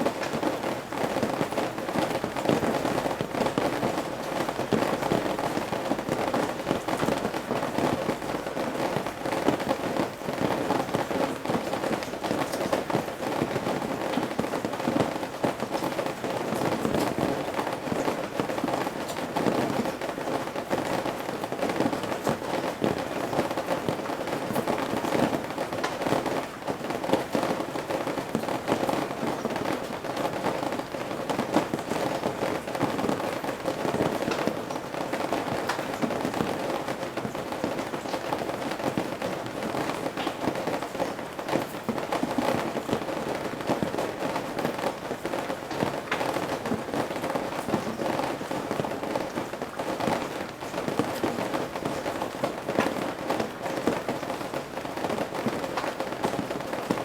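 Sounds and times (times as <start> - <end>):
rain dripping from eaves: 0.0 - 57.0.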